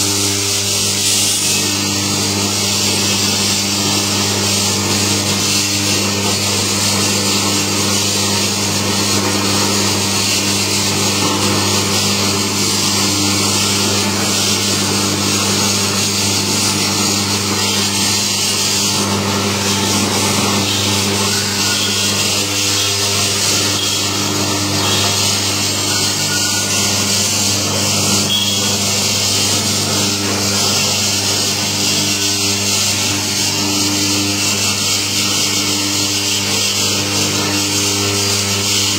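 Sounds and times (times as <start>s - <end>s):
electric extractor motor humming: 0.0s - 38.9s.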